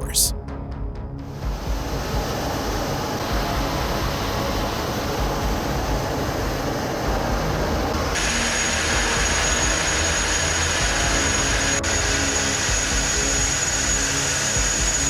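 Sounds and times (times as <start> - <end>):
high engine whine: 1.7 - 15.0.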